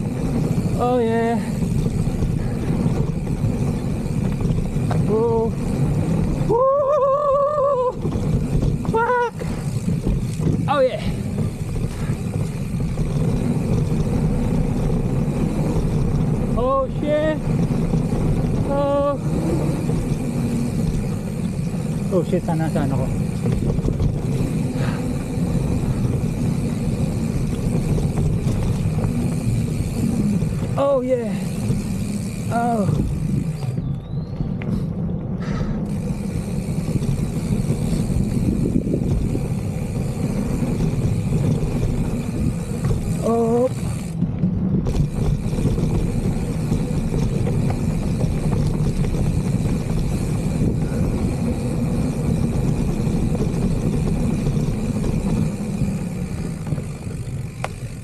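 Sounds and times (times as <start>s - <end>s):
bike tyre and wind rumble: 0.0s - 58.0s
small rattles and clicks: 0.0s - 58.0s.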